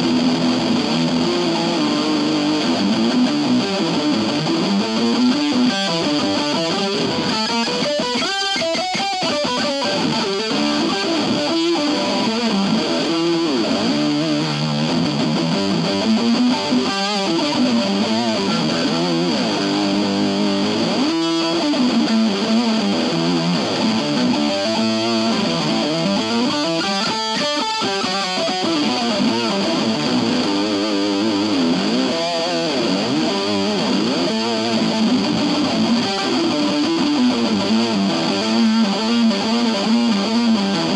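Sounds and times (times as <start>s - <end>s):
effected electric guitar notes: 0.0s - 40.9s.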